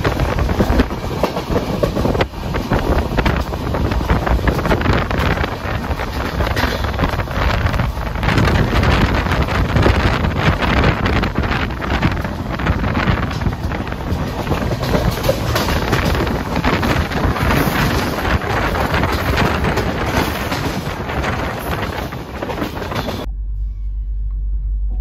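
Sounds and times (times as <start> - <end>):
wind buffeting microphone: 0.0 - 23.3
train coach rumbling on rails: 0.0 - 23.4.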